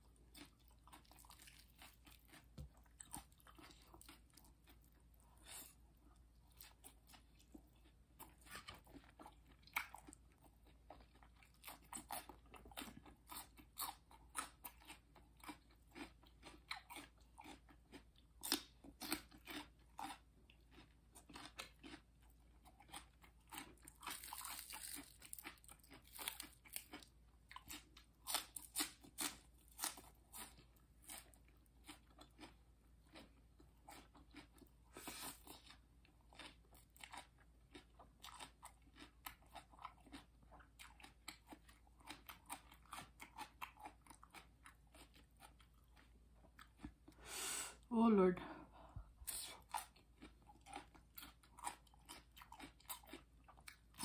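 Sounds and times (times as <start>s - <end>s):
chewing crunchy food: 0.0s - 47.3s, 48.8s - 54.0s.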